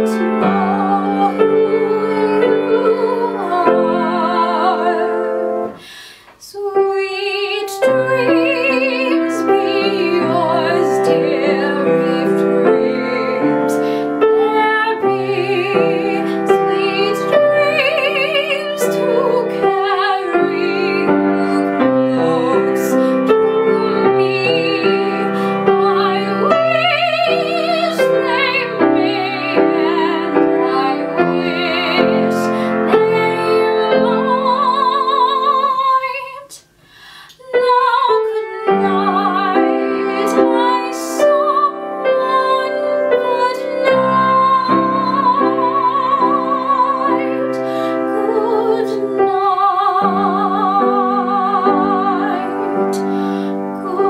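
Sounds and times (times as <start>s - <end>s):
piano accompaniment: 0.0s - 36.6s, 37.4s - 54.0s
woman singing soprano with vibrato: 0.0s - 54.0s.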